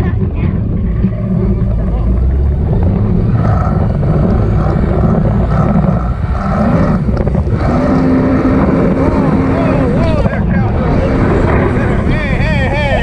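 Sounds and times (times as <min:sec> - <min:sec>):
jet ski engine running: 0:00.0 - 0:13.0
steady pitched hum: 0:00.0 - 0:13.0
wind rumble on microphone: 0:00.0 - 0:13.0.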